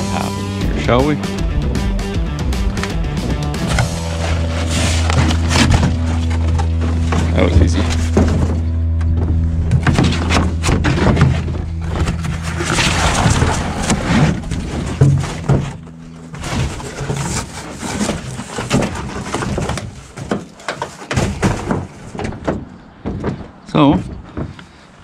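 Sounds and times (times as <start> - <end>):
low hum: 0.0 - 20.2
objects knocking and clunking: 2.8 - 24.8
rustling of handled things: 3.6 - 25.0.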